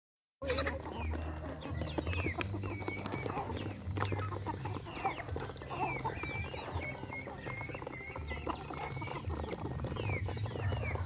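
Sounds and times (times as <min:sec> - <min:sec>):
young chickens chirping: 0:00.4 - 0:11.0.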